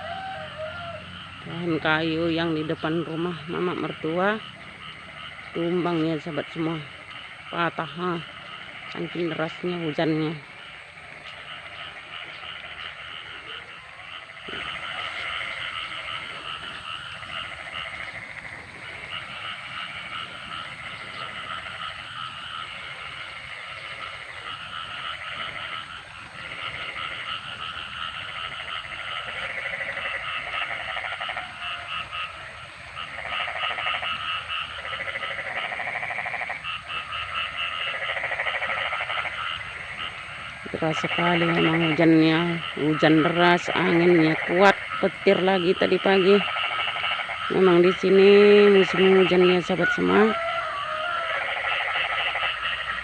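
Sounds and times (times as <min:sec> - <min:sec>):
frogs croaking in chorus: 0:00.0 - 0:53.0.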